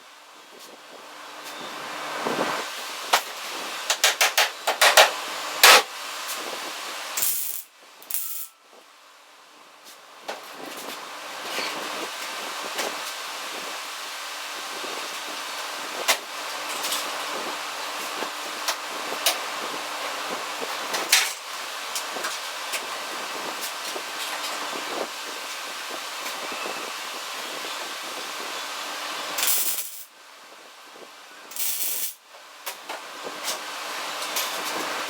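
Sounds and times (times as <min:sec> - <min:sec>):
welder crackling and hissing: 0:01.8 - 0:08.6, 0:11.9 - 0:30.1, 0:31.0 - 0:35.0.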